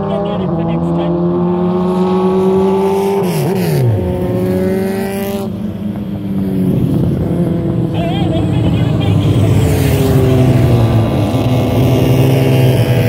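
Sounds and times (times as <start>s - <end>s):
racing engines revving high: 0.0s - 13.0s
rough engine sound: 0.0s - 13.0s.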